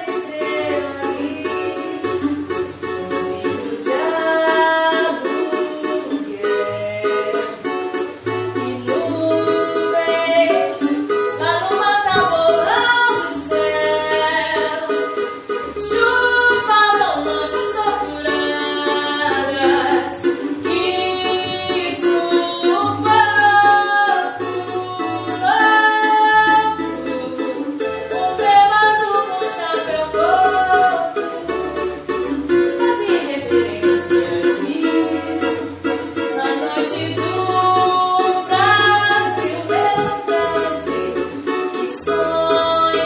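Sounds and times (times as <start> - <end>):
cavaquinho strummed chords: 0.0 - 43.0
woman singing: 0.0 - 43.0.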